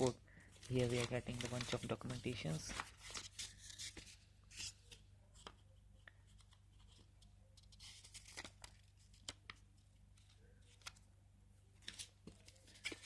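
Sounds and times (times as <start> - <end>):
paper rustling: 0.0 - 5.6, 6.2 - 11.1, 11.8 - 13.0
low electrical hum: 0.0 - 13.0.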